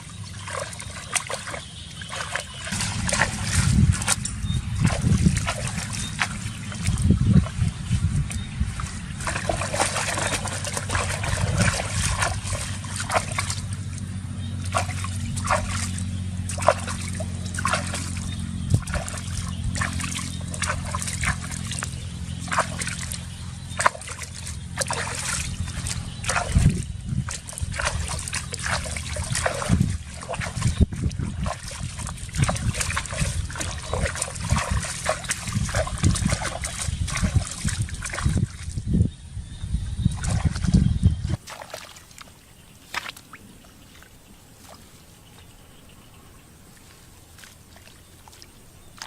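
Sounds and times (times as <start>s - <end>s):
water splashing and sloshing: 0.0s - 39.0s, 39.9s - 49.0s
steady low hum: 0.0s - 49.0s.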